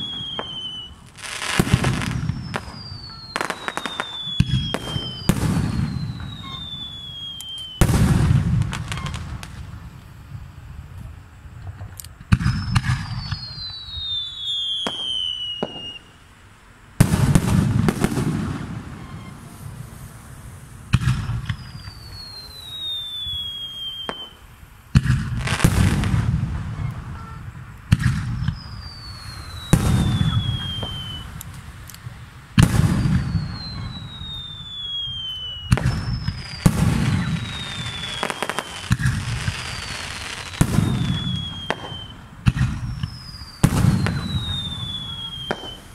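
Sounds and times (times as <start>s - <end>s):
firework shells bursting: 0.0s - 10.2s, 17.0s - 45.9s
falling firework whistles: 0.0s - 16.4s, 17.0s - 45.9s
firework crackles: 0.0s - 45.9s.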